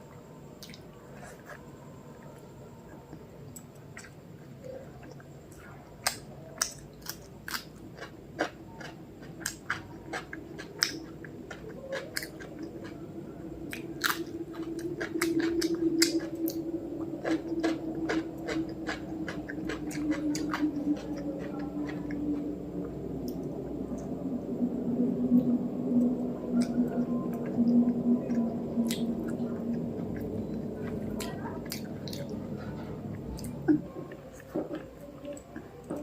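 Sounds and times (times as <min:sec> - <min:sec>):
low steady hum: 0:00.0 - 0:36.0
person chewing food: 0:00.6 - 0:24.1, 0:26.6 - 0:36.0.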